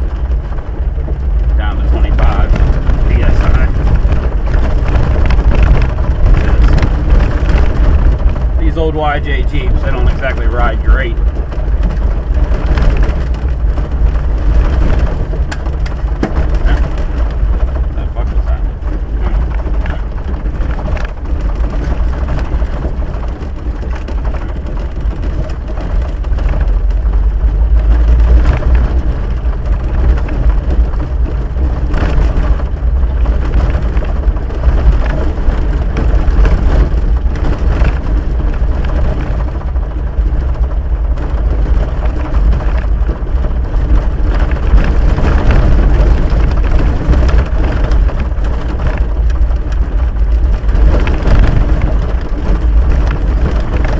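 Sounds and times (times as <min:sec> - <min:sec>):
engine and tyres rumbling: 0:00.0 - 0:53.9
knocks and crunches from gravel: 0:00.0 - 0:53.9.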